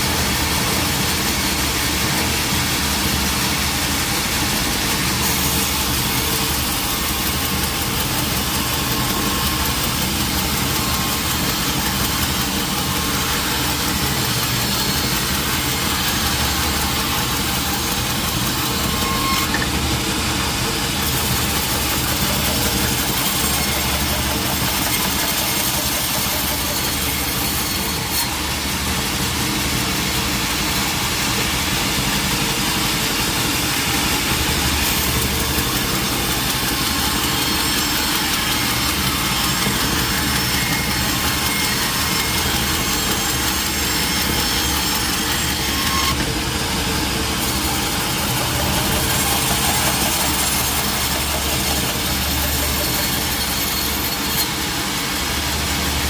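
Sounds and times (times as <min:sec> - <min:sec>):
continuous machinery hiss: 0:00.0 - 0:56.0
sawmill machinery engine drone: 0:00.0 - 0:56.0.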